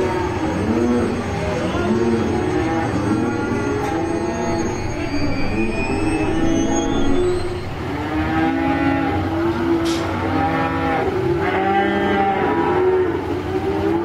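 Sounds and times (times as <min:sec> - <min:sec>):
cattle mooing: 0:00.0 - 0:07.2, 0:07.8 - 0:14.0.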